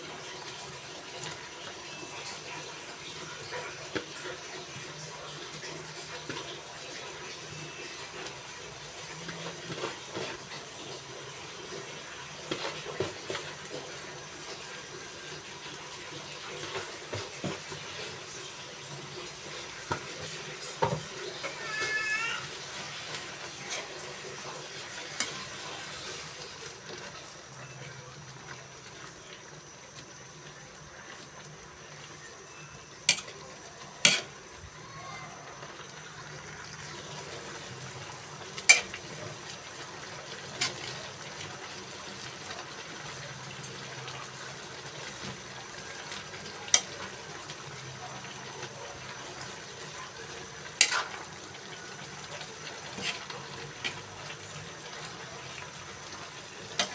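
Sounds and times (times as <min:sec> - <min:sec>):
pot simmering and sizzling: 0:00.0 - 0:56.9.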